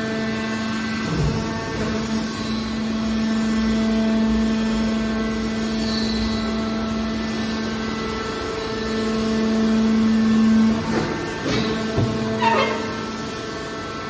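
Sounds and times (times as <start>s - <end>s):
hydraulic baler humming: 0.0s - 14.0s.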